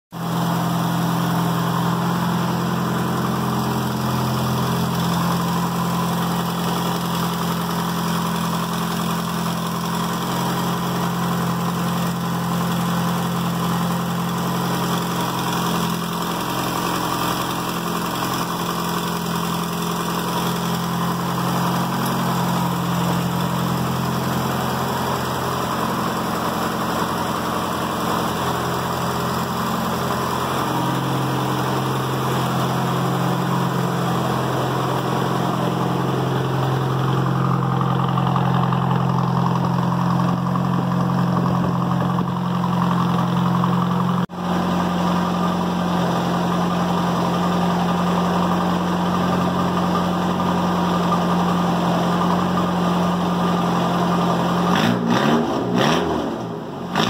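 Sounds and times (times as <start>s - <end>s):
truck engine idling: 0.1s - 57.0s.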